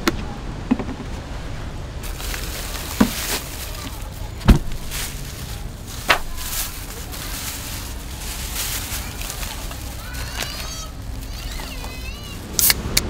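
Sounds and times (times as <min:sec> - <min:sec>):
plastic rustling: 0:02.0 - 0:12.6.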